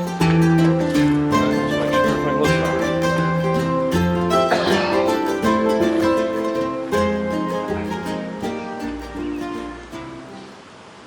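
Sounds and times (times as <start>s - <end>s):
plucked string music: 0.0s - 10.7s.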